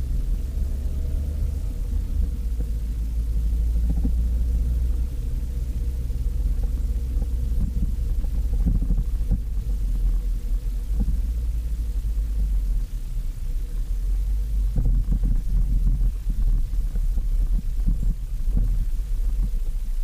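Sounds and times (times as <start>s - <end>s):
car engine low rumble: 0.0s - 20.0s
faint steady hum: 0.0s - 20.0s
road noise: 0.0s - 20.0s.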